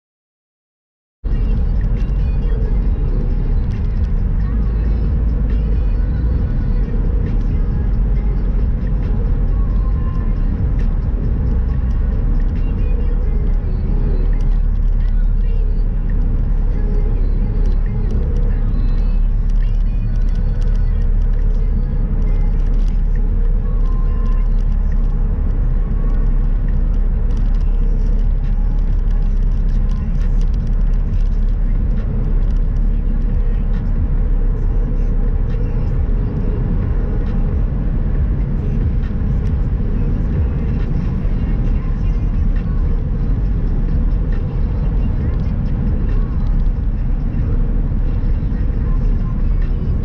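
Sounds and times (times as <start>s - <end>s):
car road and engine rumble: 1.2s - 50.0s.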